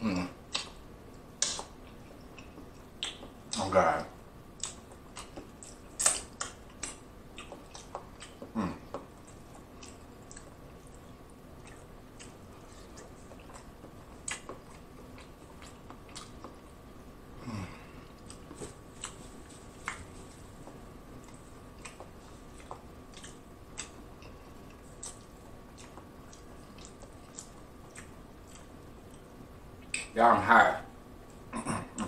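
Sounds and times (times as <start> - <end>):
wet chewing and mouth clicks: 0.5 - 3.6, 4.6 - 16.8, 18.0 - 30.1.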